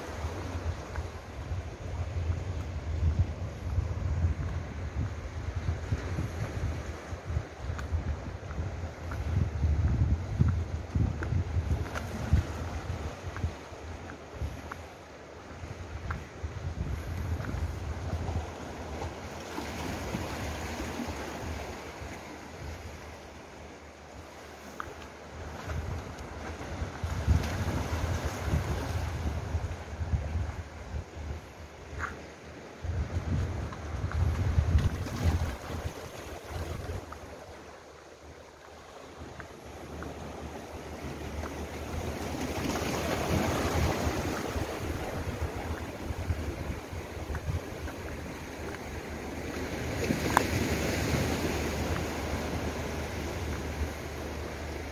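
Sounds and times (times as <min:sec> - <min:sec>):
wind buffeting microphone: 0:00.0 - 0:23.2, 0:25.4 - 0:54.9
surf washing on rocky shore: 0:00.0 - 0:54.9.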